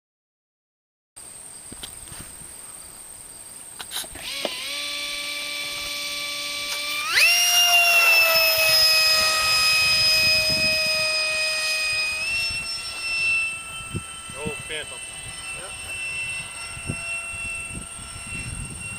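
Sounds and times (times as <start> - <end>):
model jet electric fan whine: 1.3 - 18.9.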